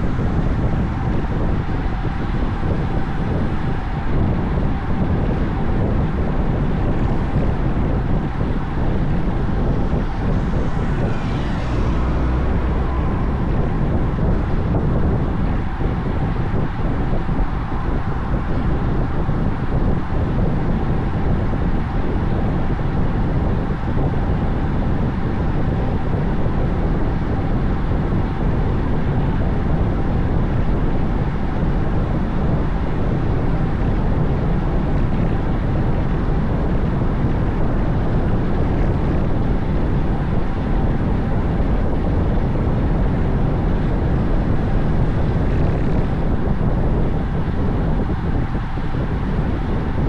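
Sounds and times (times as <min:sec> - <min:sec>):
road noise: 0:00.0 - 0:50.0
wind rush on microphone: 0:00.0 - 0:50.0.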